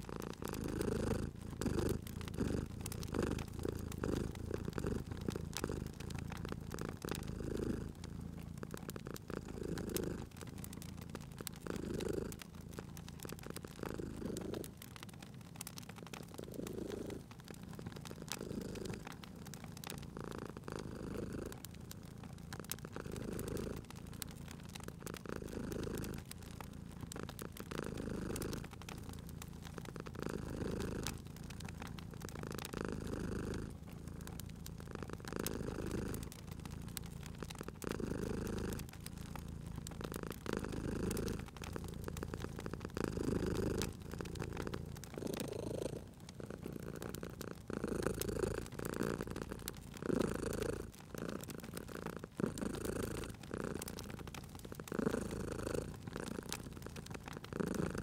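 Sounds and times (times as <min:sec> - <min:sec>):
cat purring: 0:00.0 - 0:58.0
wood fire crackling: 0:00.0 - 0:58.0.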